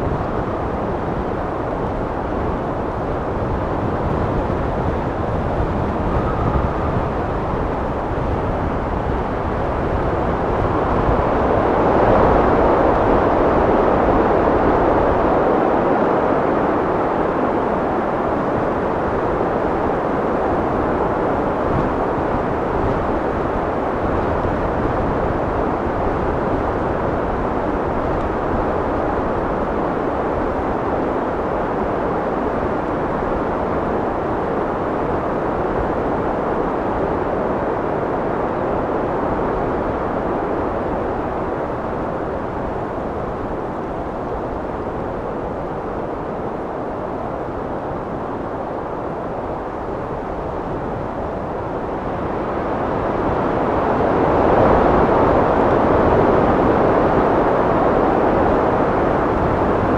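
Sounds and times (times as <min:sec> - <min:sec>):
steady wind noise: 0:00.0 - 0:59.9.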